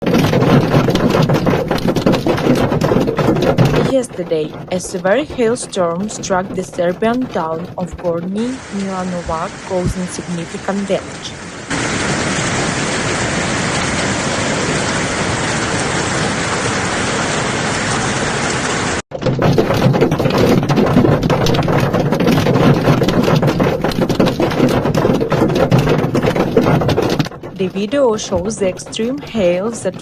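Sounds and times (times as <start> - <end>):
hailstones clattering: 0.0 - 16.5, 18.9 - 30.0
heavy hail roaring: 0.0 - 30.0.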